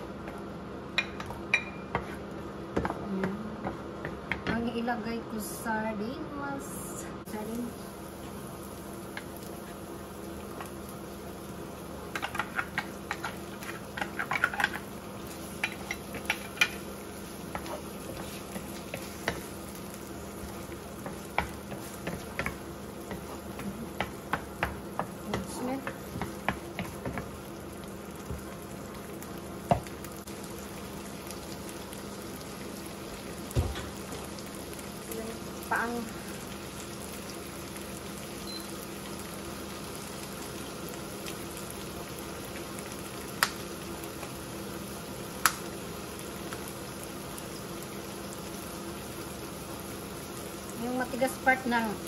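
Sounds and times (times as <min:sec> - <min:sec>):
food sizzling in a frying pan: 0:00.0 - 0:52.0.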